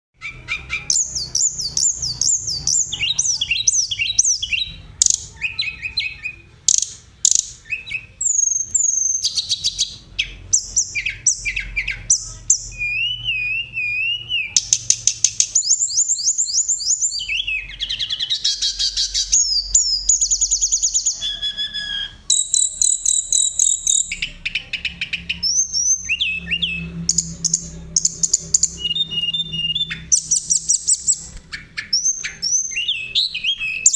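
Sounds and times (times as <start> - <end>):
bird singing trills and whistles: 0.2 - 33.9.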